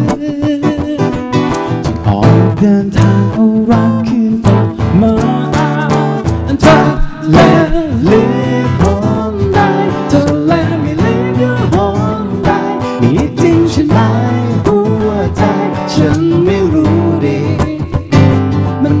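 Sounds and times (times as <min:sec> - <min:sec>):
man singing: 0:00.0 - 0:19.0
strummed acoustic guitar: 0:00.0 - 0:19.0.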